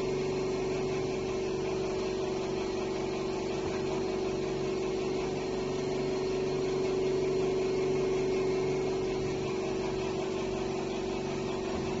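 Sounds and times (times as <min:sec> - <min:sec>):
conveyor motor humming: 0:00.0 - 0:12.0.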